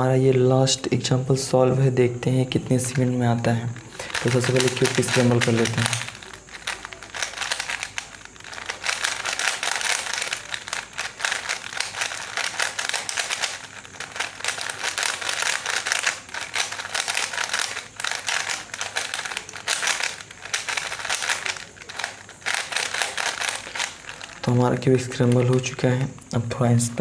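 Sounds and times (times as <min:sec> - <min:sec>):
plastic puzzle cube clicking: 0:02.8 - 0:26.4.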